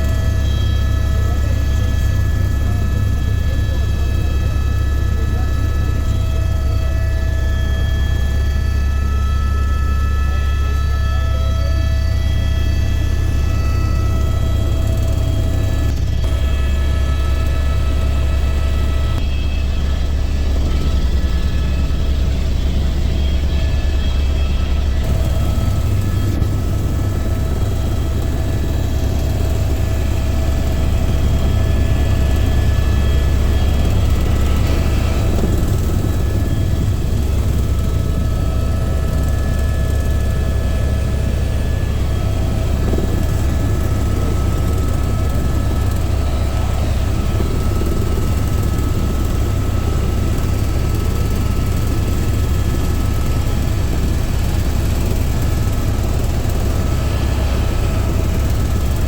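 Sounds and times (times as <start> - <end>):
helicopter rotor drone: 0.0 - 59.0
high-pitched engine whine: 0.0 - 59.0.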